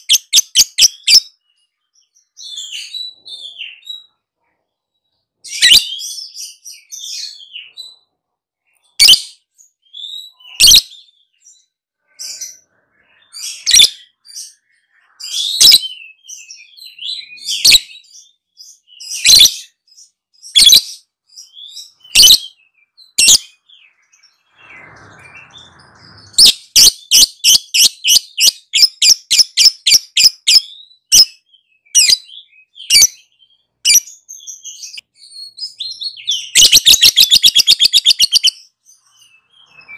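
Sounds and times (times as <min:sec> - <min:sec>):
lovebird chirping: 0:00.0 - 0:04.2, 0:05.4 - 0:08.0, 0:08.8 - 0:39.9.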